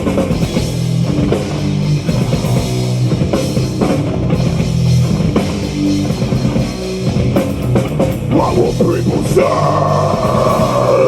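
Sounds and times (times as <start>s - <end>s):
bass guitar: 0.0s - 11.0s
distorted electric guitars: 0.0s - 11.0s
drum kit: 0.0s - 11.0s.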